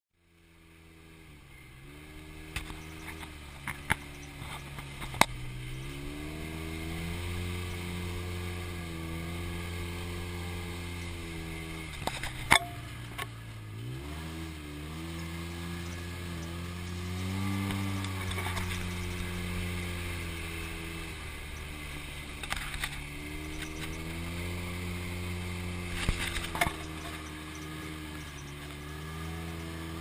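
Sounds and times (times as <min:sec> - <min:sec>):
vehicle engine running: 0:00.2 - 0:30.0.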